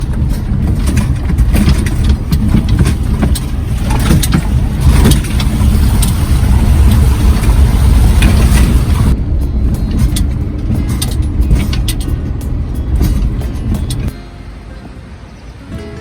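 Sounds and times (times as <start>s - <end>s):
small knocks and rattles: 0.0s - 14.2s
car engine and road rumble: 0.0s - 16.0s.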